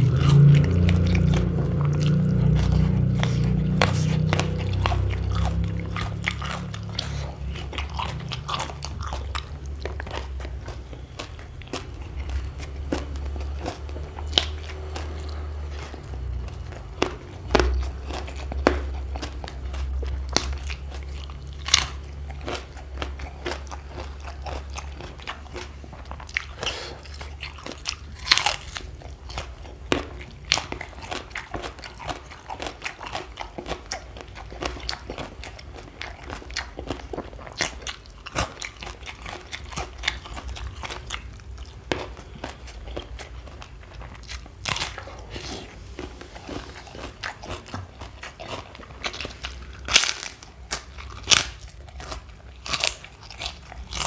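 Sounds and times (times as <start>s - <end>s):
chewing crunchy food: 0.0s - 54.0s
low steady hum: 0.0s - 54.0s.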